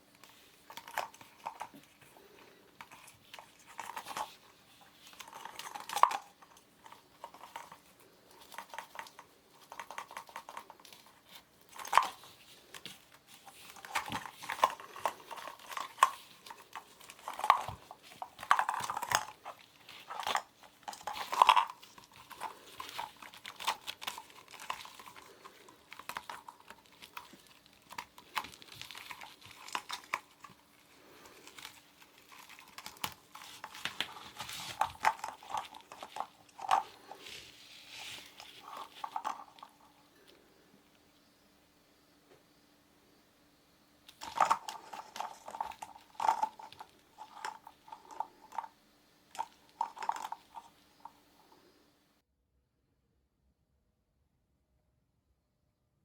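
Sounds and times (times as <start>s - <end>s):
kittens playing with toys: 0.0s - 41.1s, 44.0s - 51.8s.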